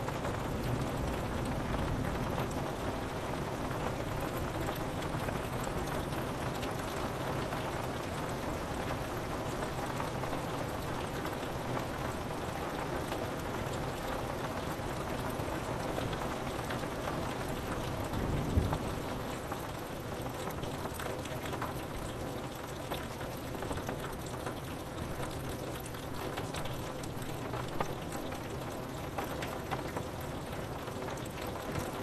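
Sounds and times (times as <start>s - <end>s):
rain on a window: 0.0s - 32.0s.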